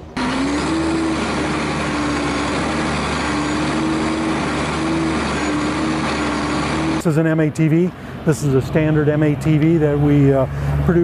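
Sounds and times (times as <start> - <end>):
diesel truck engine driving: 0.0 - 11.0.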